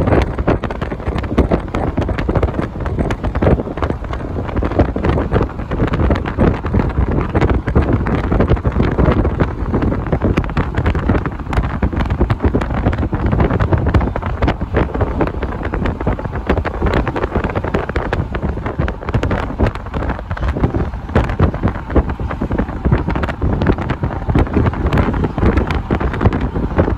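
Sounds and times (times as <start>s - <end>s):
car road noise: 0.0s - 26.9s
wind buffeting microphone: 0.0s - 26.9s.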